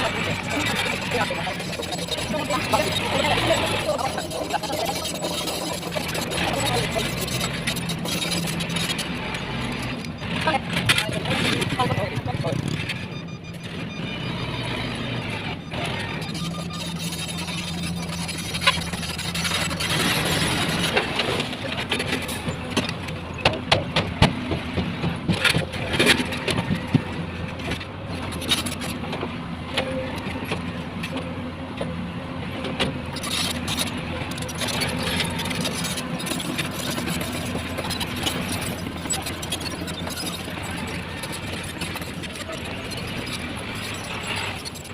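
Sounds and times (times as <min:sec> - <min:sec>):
construction machinery engine drone: 0:00.0 - 0:44.9.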